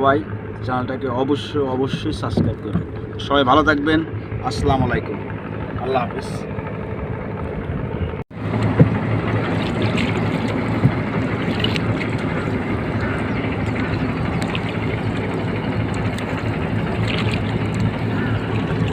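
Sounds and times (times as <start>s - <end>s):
engine droning steadily: 0.0s - 18.9s.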